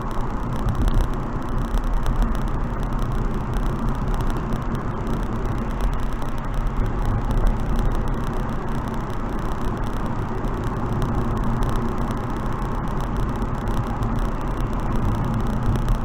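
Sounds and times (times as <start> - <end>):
tyre road rumble: 0.0 - 16.0
wind noise: 0.0 - 16.0.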